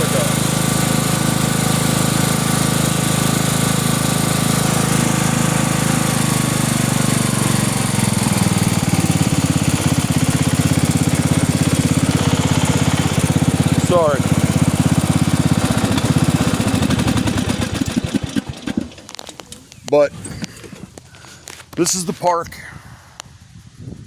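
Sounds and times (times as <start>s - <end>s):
riding lawn mower engine: 0.0s - 22.7s.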